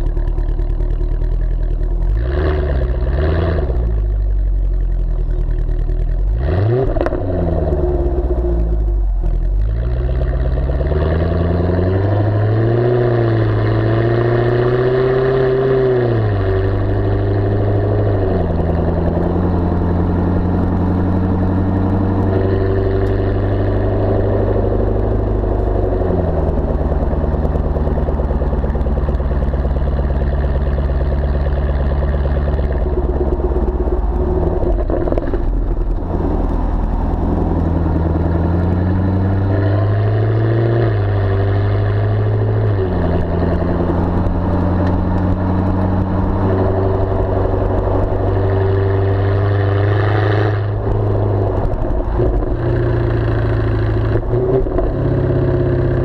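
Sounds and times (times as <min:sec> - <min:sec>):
car engine exhaust revving: 0:00.0 - 0:56.0.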